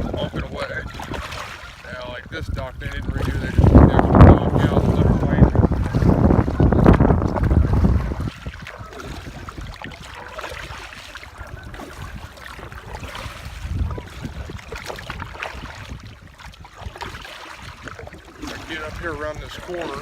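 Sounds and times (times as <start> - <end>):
water lapping at boat: 0.0 - 20.0
wind buffeting microphone: 0.0 - 20.0.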